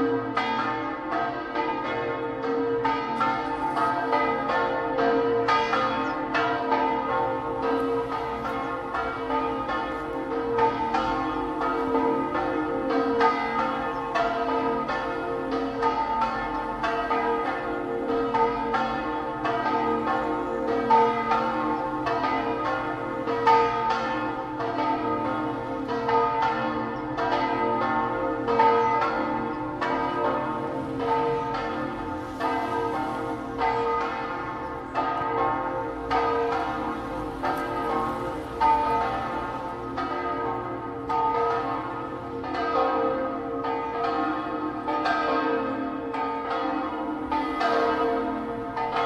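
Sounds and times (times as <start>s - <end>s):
church bells ringing: 0.0s - 49.0s.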